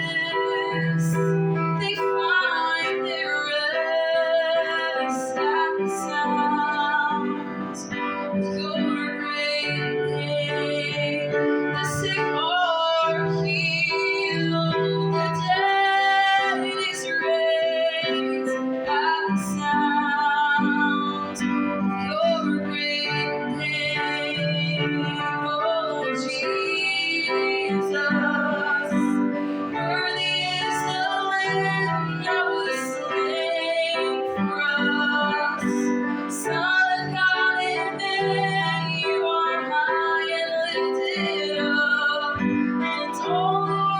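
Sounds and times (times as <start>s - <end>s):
keyboard accompaniment: 0.0s - 43.9s
woman singing: 0.0s - 43.9s.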